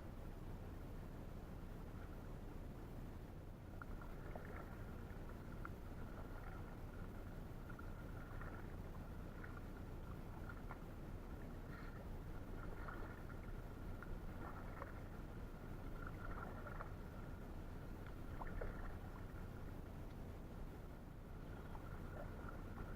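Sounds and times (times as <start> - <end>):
steady low noise: 0.0 - 22.9
paddle splashes and drips: 3.7 - 22.9.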